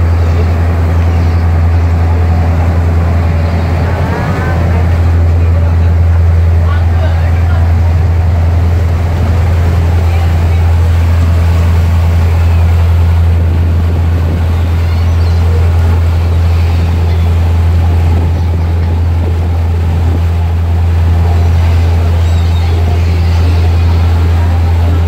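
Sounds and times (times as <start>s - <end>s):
boat engine droning: 0.0s - 25.0s
wake water rushing: 0.0s - 25.0s.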